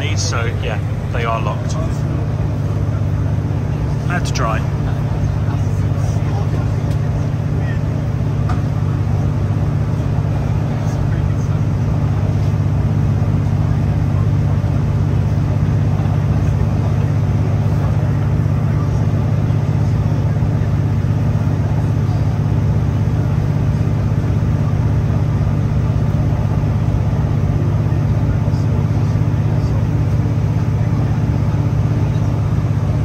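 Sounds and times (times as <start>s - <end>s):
diesel engine drone: 0.0s - 33.0s
wheels rumbling on rail: 0.0s - 33.0s.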